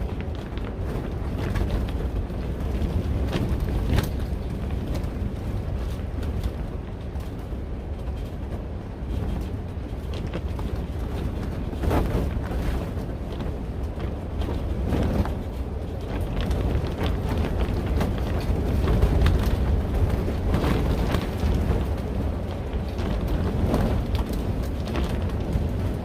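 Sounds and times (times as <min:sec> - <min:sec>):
greenhouse covering flapping: 0:00.0 - 0:26.0
strong wind gusting: 0:00.0 - 0:26.0
wind buffeting microphone: 0:00.0 - 0:26.0.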